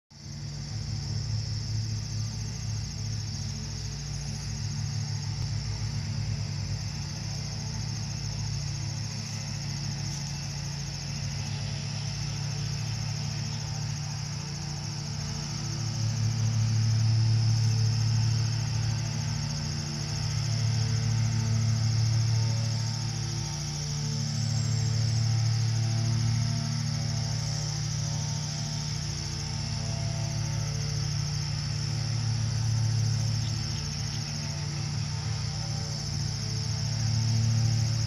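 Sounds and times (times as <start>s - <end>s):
low drone: 0.1s - 38.0s
insects trilling: 0.2s - 38.0s.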